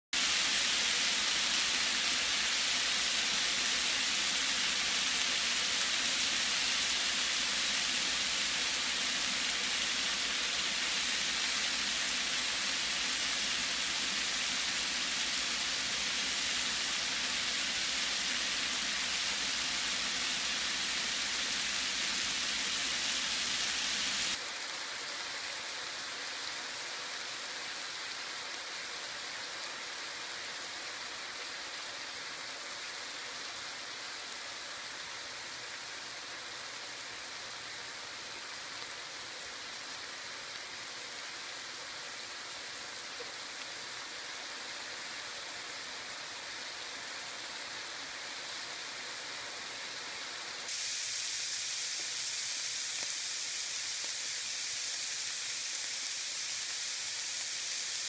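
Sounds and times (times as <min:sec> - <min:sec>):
food sizzling in a frying pan: 0:00.2 - 0:28.5, 0:30.9 - 0:58.0.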